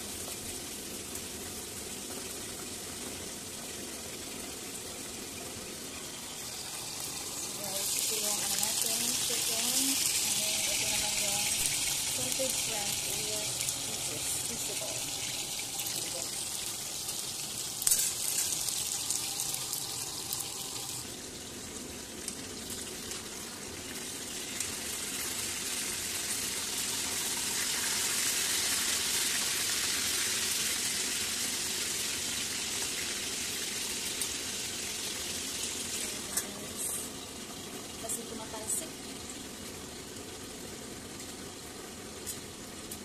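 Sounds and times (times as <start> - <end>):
chicken frying in hot oil: 0.0 - 43.0.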